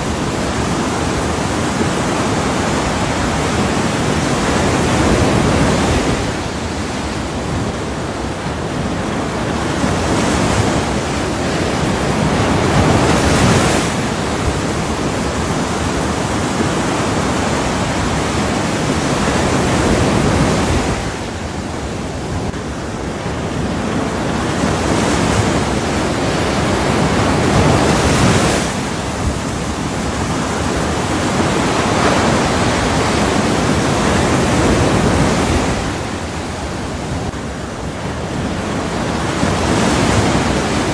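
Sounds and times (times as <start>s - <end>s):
ocean waves washing in: 0.0s - 40.9s.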